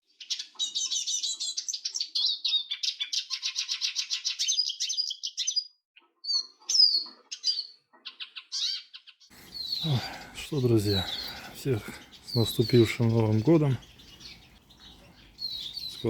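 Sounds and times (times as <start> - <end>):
songbird twittering and chirping: 0.1 - 16.0.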